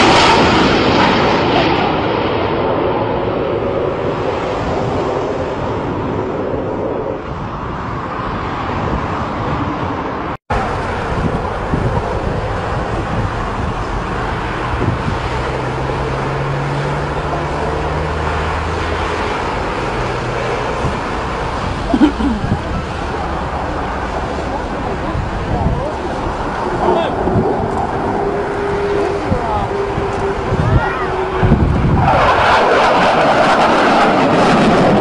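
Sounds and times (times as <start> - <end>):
fighter jet flying past: 0.0 - 35.0.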